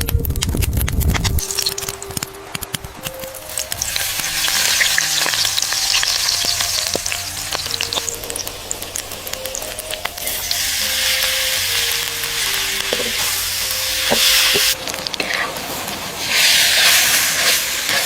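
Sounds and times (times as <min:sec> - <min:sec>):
food sizzling in a hot pan: 0:03.1 - 0:18.0.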